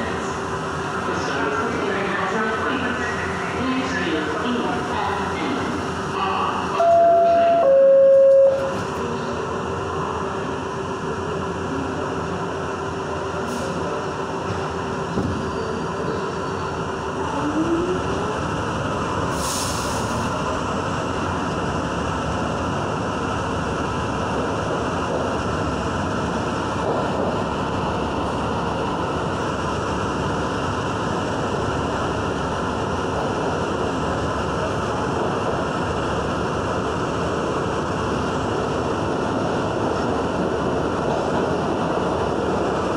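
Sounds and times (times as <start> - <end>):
subway train rail noise: 0.0 - 42.9.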